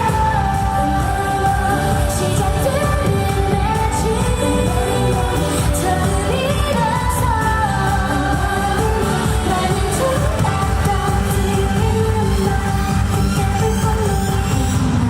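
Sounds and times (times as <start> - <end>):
female group singing pop song: 0.0 - 15.0
steady pop beat: 0.0 - 15.0.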